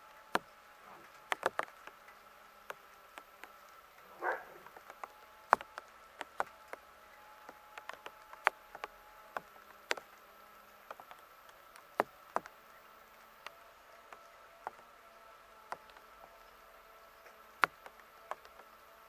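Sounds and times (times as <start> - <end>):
faint high hum: 0.0 - 19.0.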